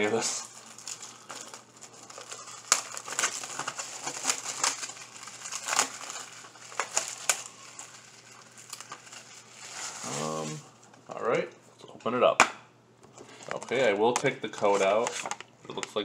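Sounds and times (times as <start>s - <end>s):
packaging crinkling: 0.0s - 11.0s, 13.1s - 16.0s.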